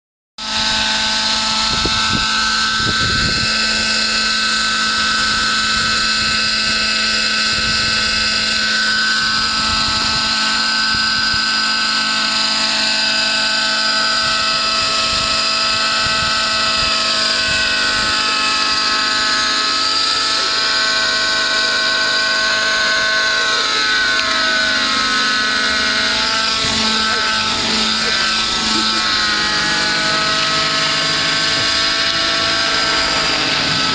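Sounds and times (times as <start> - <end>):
model helicopter engine whine: 0.4 - 33.9.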